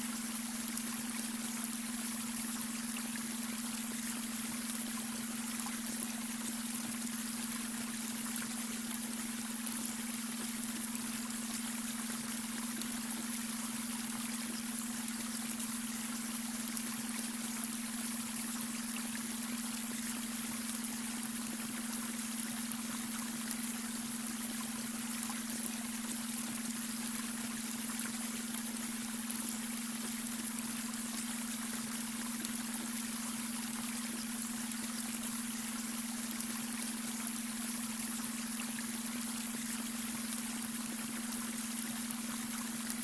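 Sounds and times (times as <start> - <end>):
steady low hum tone: 0.0 - 43.0.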